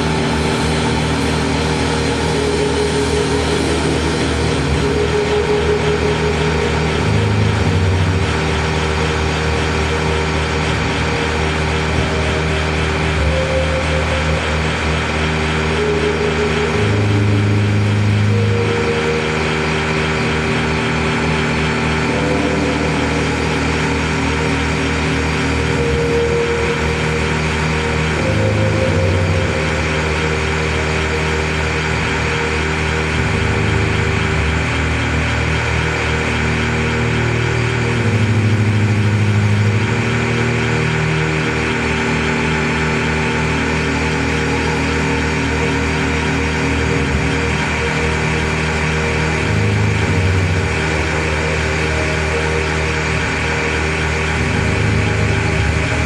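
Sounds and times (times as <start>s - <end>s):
electronic drone with low tones: 0.0s - 56.0s
low throb with fast flutter: 0.0s - 56.0s.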